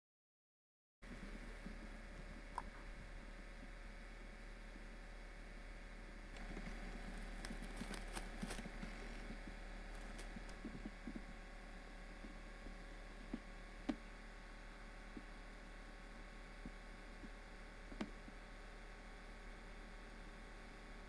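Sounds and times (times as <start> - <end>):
faint steady hum: 1.0 - 21.0.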